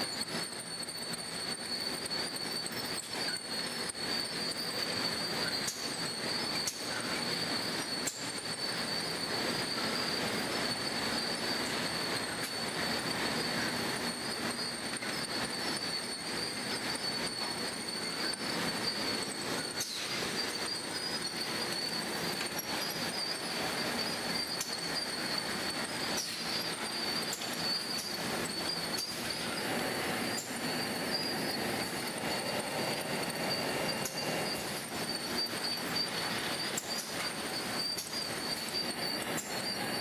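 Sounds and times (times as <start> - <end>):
clattering conveyor machinery: 0.0 - 40.0
high-pitched machine whine: 0.0 - 40.0.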